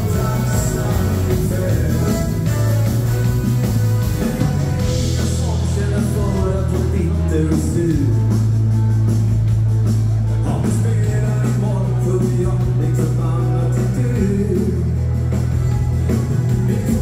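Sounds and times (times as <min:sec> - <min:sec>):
electric guitar: 0:00.0 - 0:17.0
held bass notes: 0:00.0 - 0:17.0
rock and roll dance band: 0:00.0 - 0:17.0.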